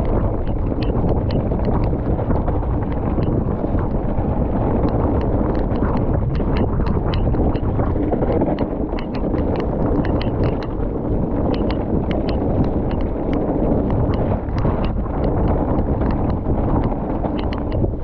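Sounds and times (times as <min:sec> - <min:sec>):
bike clicks and rattles: 0:00.0 - 0:18.0
bike tyres rumbling: 0:00.0 - 0:18.0
wind on microphone: 0:00.0 - 0:18.0.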